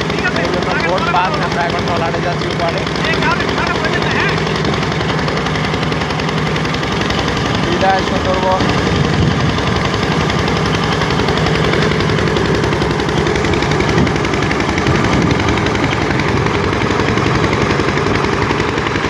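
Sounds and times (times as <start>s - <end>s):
boat diesel engine pulsing: 0.0s - 19.0s.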